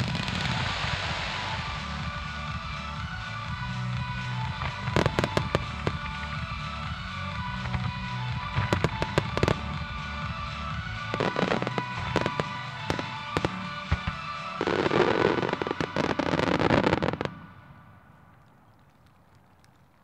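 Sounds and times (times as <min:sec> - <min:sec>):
music: 0:00.0 - 0:17.7
fireworks bursting: 0:00.0 - 0:18.3.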